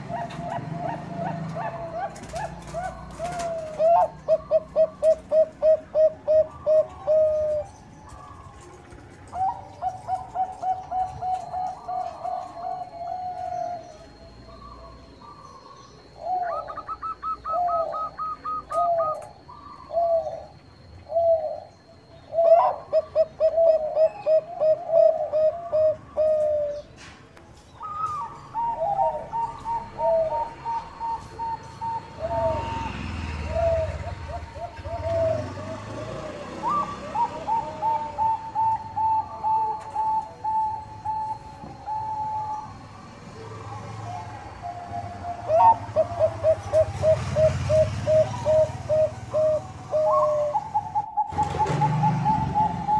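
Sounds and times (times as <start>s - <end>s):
doves cooing: 0.0s - 52.9s.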